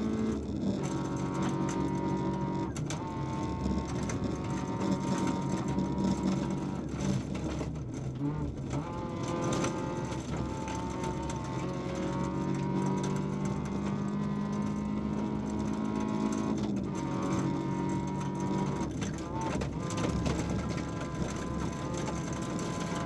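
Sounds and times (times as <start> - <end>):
rally car engine running hard: 0.0 - 23.0.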